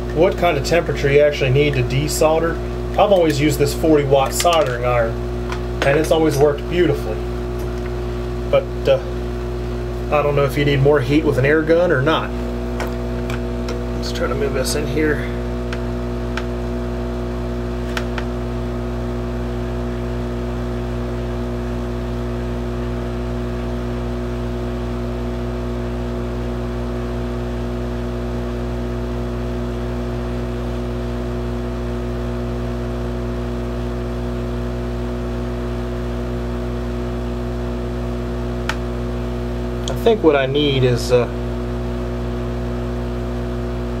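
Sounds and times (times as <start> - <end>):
hot air blower running: 0.0 - 44.0.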